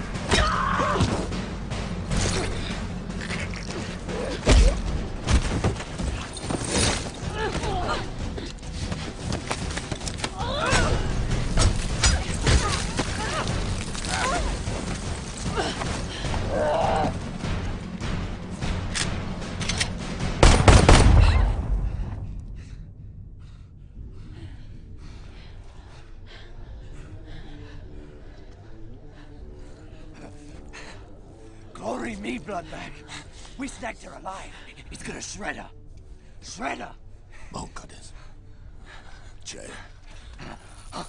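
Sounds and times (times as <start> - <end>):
film score music: 0.0 - 41.0.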